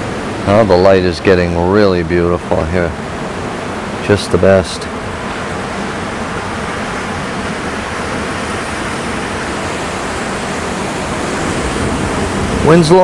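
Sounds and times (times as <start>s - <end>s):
ocean surf on rocky shore: 0.0s - 13.0s.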